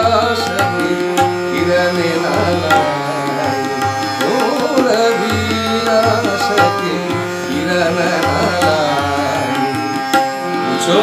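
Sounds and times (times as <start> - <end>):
tabla strokes: 0.0 - 10.9
harmonium and tanpura drone: 0.0 - 11.0.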